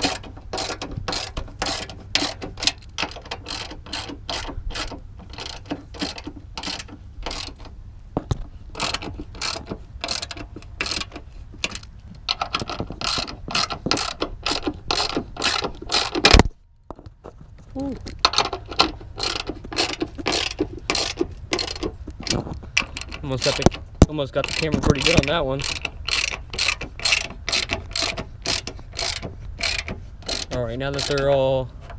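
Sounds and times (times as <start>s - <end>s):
hand ratchet clicking: 0.0s - 7.7s, 8.7s - 16.4s, 18.2s - 31.9s.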